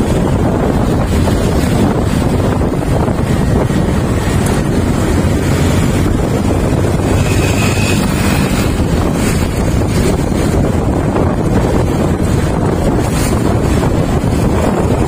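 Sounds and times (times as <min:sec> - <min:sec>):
motorcycle engine: 0:00.0 - 0:15.0
road noise: 0:00.0 - 0:15.0
wind rumble on microphone: 0:00.0 - 0:15.0.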